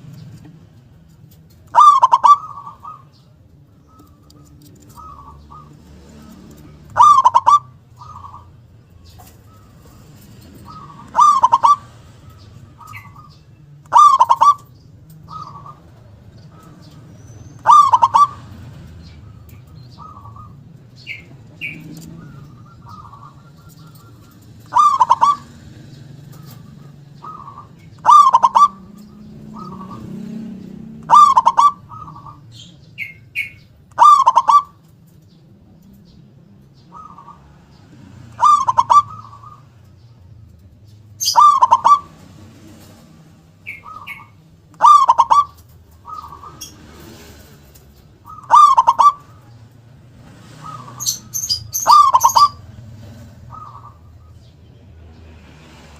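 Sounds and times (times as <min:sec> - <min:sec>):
dove cooing: 0:00.0 - 0:54.6.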